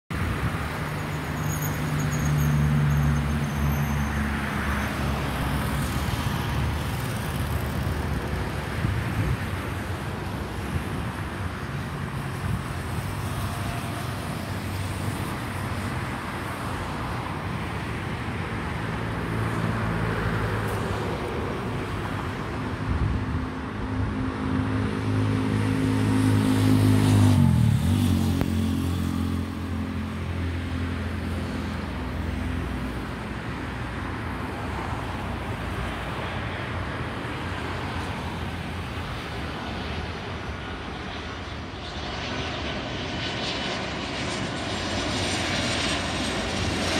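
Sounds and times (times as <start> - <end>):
background traffic noise: 0.1 - 46.9.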